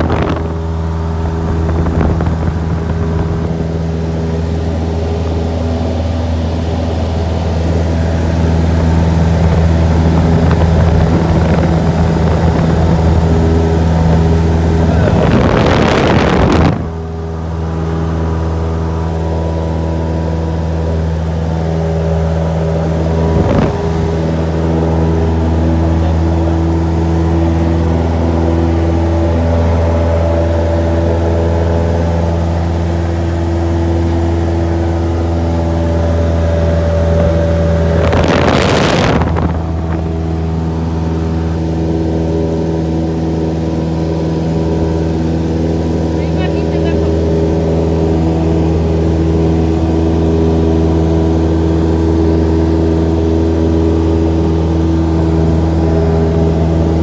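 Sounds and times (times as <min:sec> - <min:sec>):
airplane engine droning: 0:00.0 - 0:57.0.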